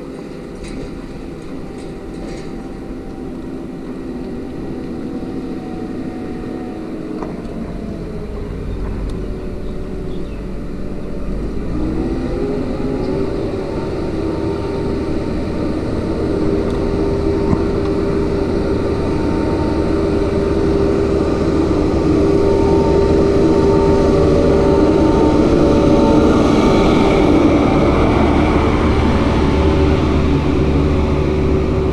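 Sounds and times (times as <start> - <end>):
backhoe diesel engine passing: 0.0 - 31.9.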